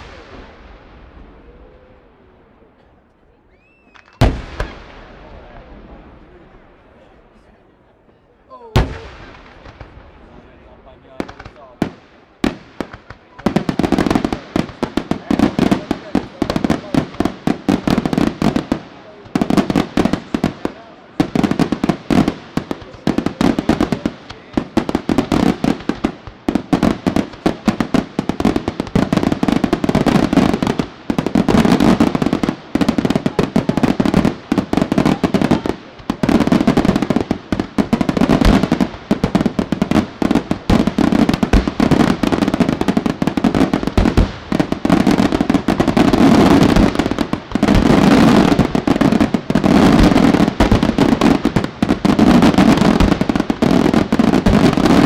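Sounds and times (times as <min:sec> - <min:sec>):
fireworks booming and crackling: 0:00.0 - 0:07.4, 0:08.0 - 0:55.0.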